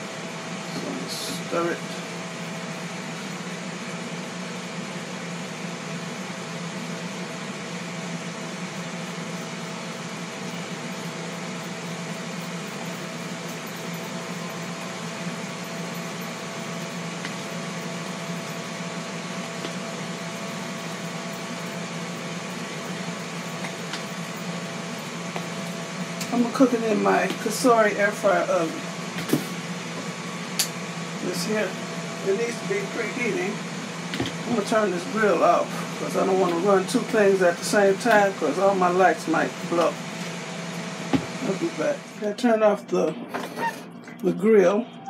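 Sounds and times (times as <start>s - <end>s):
grill fan whirring: 0.0s - 45.0s.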